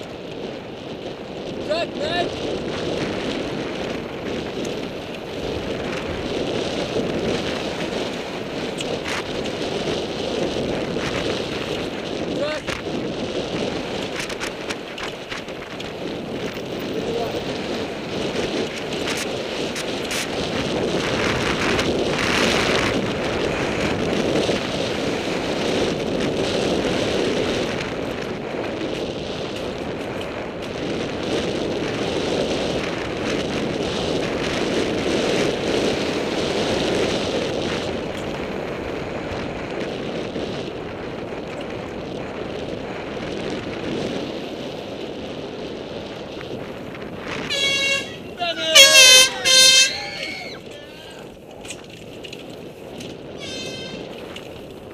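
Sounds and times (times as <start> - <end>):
bike rattling over rough trail: 0.0 - 54.9
wind rushing over microphone: 0.0 - 54.9.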